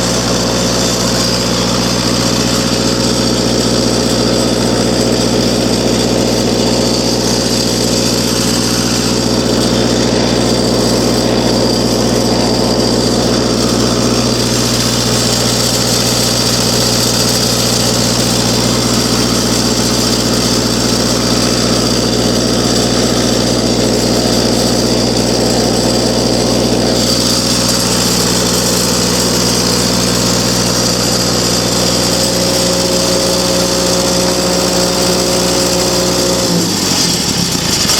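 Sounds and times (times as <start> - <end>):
welder engine running steadily: 0.0 - 37.9.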